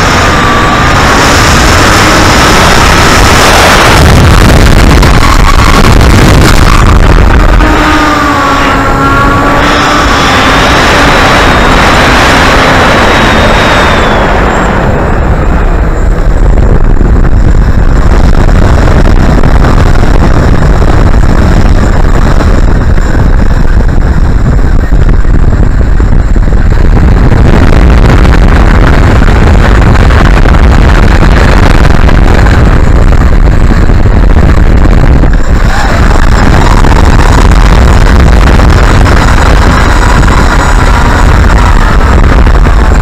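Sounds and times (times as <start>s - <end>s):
faint high whine: 0.0s - 43.0s
model plane motors and propellers: 0.0s - 43.0s
wind buffeting microphone: 0.0s - 43.0s.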